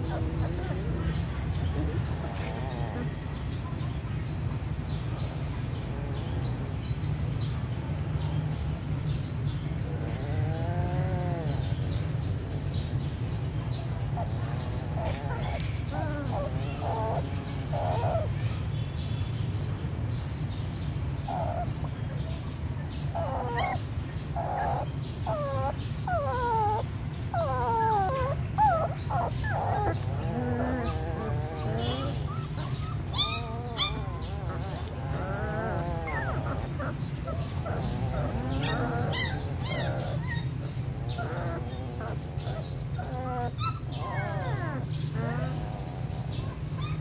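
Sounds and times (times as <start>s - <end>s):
puppies whimpering: 0.0s - 3.6s, 9.8s - 12.7s, 13.4s - 18.8s, 21.1s - 47.0s.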